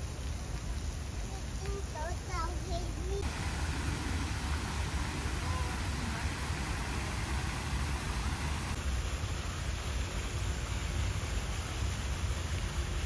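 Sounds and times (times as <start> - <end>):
even hiss: 0.0 - 13.0
low flickering rumble: 0.0 - 13.0.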